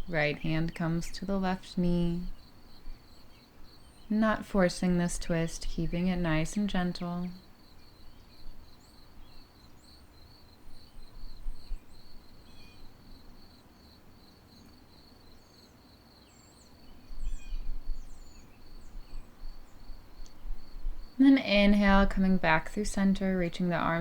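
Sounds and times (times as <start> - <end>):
crickets chirping: 0.0 - 21.8
small birds chirping: 0.0 - 22.0.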